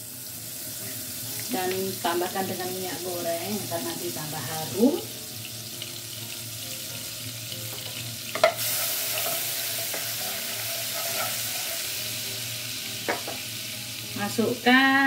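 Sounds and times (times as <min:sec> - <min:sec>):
oil sizzling in a pot: 0:00.0 - 0:15.0.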